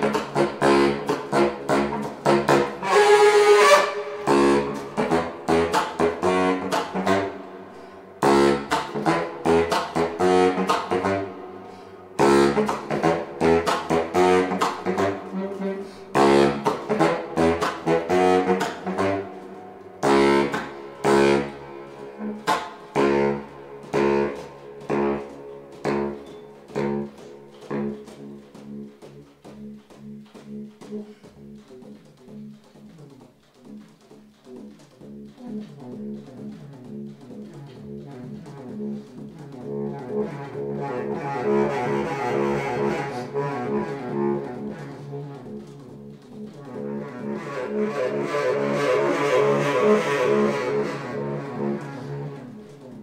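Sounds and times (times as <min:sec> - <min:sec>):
baritone saxophone riff: 0:00.0 - 0:53.0.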